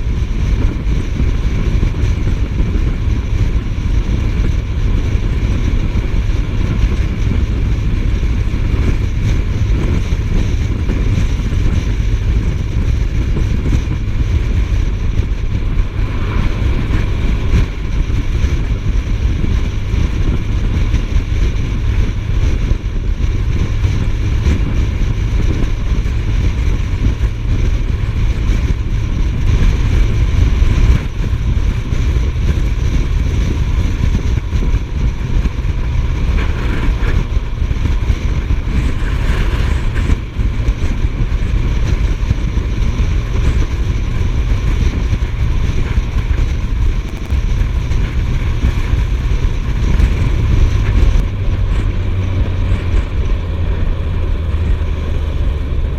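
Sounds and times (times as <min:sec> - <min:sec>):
motorcycle engine droning: 0:00.0 - 0:55.9
wind rushing over microphone: 0:00.0 - 0:55.9.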